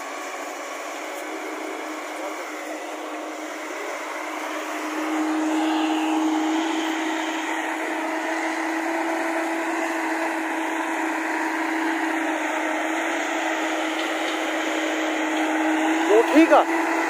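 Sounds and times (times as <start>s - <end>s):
excavator engine and hydraulics: 0.0s - 17.0s.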